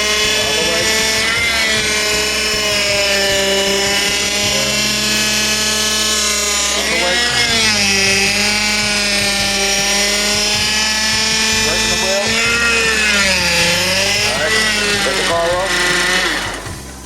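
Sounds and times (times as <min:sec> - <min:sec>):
power steering pump whining: 0:00.0 - 0:17.0.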